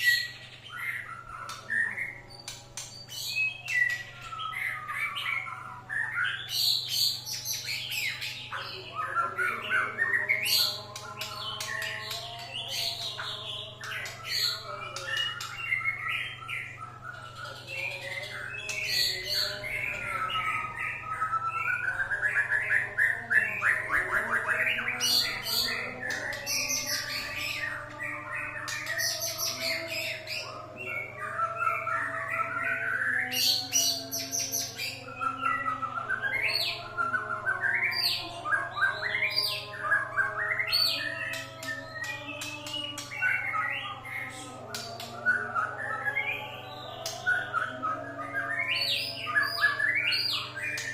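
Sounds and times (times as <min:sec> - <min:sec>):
bird singing whistles and chirps: 0:00.0 - 0:50.9.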